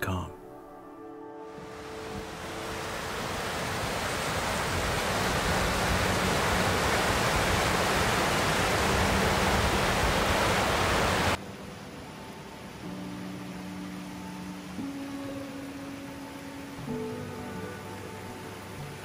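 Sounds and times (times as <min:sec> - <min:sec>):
stream rushing over rocks: 0:01.6 - 0:19.0.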